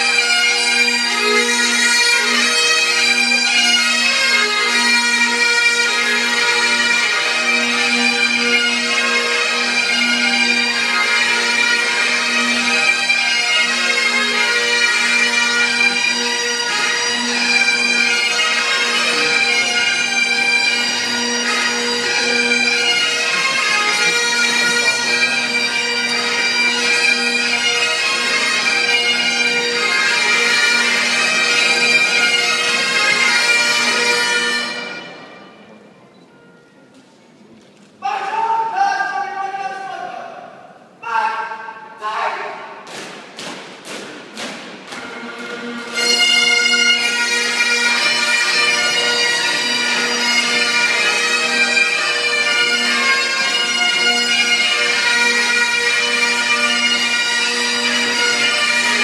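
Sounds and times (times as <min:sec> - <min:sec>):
bagpipes playing a tune: 0:00.0 - 0:36.8, 0:44.3 - 0:59.0.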